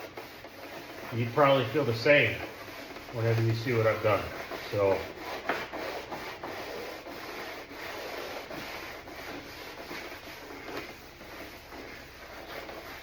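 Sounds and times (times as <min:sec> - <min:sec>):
emery cloth rubbing on plastic: 0:00.0 - 0:13.0.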